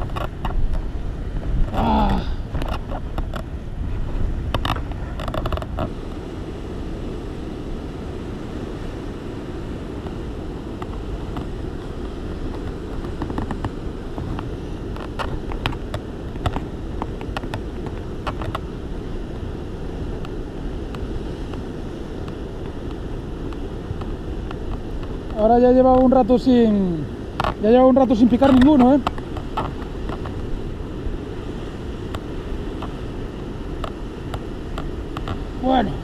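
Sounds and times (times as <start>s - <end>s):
sea surf rushing: 0.0s - 36.0s
wind buffeting microphone: 0.0s - 36.0s.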